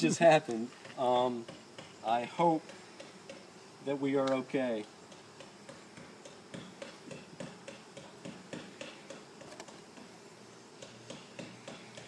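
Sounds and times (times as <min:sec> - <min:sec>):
light ticks and taps on hive box: 0:00.3 - 0:03.5, 0:04.1 - 0:10.2, 0:10.8 - 0:12.0.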